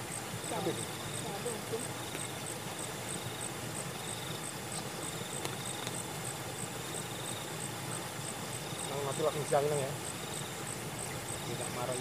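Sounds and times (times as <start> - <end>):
insects chirping: 0.0 - 12.0
lower insect trill: 0.0 - 12.0.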